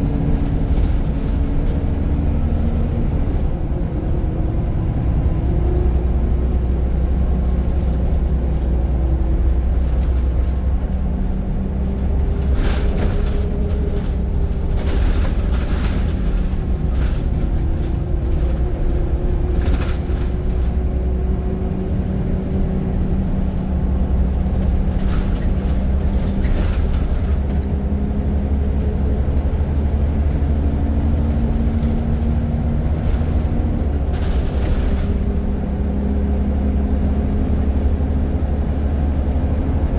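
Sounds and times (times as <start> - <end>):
bus body rattling: 0.0 - 39.9
bus diesel engine droning: 0.0 - 39.9.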